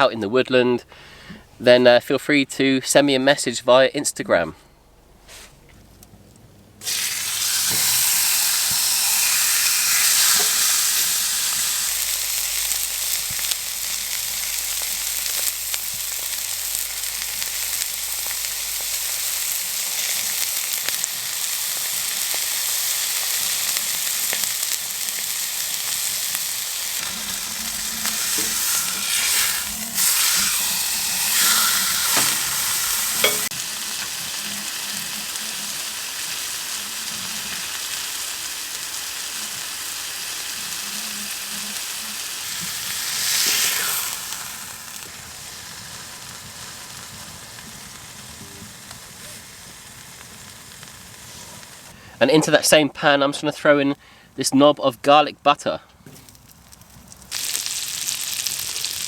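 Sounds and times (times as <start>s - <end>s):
steak sizzling in a hot pan: 6.8s - 51.9s, 56.7s - 59.0s.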